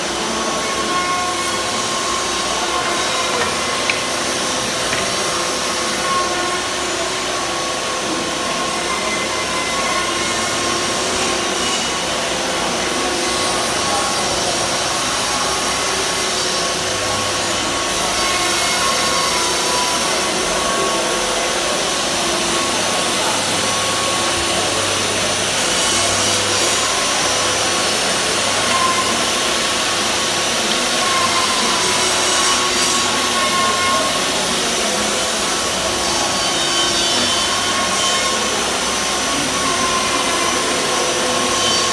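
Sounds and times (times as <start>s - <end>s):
dust extractors whining: 0.0s - 41.9s
power tool noise: 0.0s - 41.9s.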